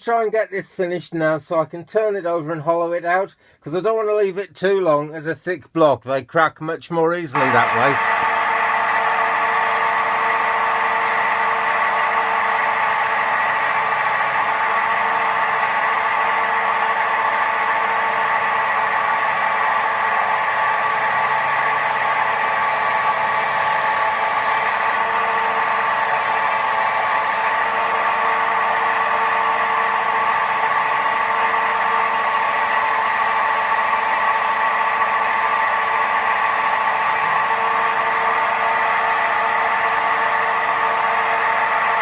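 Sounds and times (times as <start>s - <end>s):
wood lathe humming: 7.3s - 42.0s.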